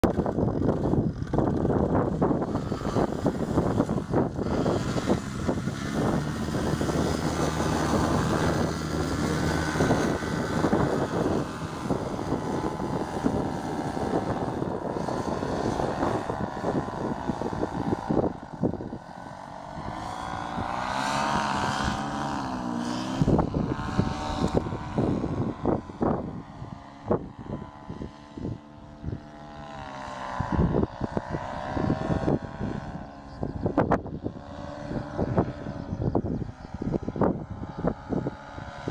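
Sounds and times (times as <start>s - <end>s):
propeller engine running: 0.0s - 38.9s
wind buffeting microphone: 0.0s - 38.9s.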